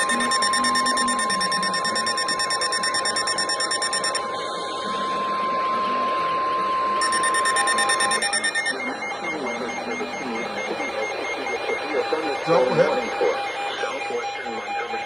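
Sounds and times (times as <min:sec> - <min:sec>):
rapidly pulsing high beep: 0:00.0 - 0:04.4, 0:07.0 - 0:15.0
steady alarm tone: 0:00.0 - 0:15.0.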